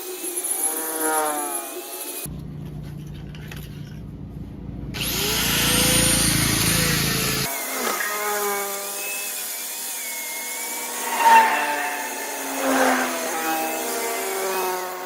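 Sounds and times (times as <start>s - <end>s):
power tool cutting wood: 0.0s - 2.3s, 5.0s - 15.0s.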